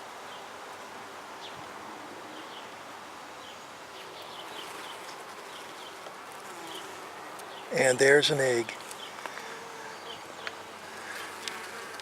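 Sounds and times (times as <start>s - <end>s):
honeybees buzzing: 0.3s - 12.0s.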